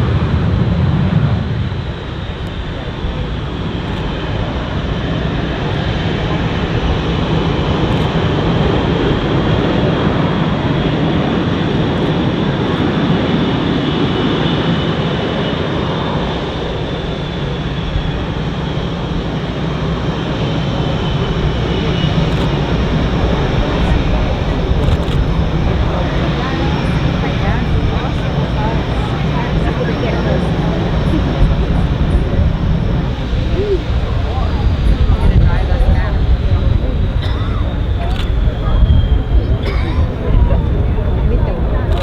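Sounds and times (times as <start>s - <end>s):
high turbine whine: 0.0s - 42.0s
jet engines running: 0.0s - 42.0s.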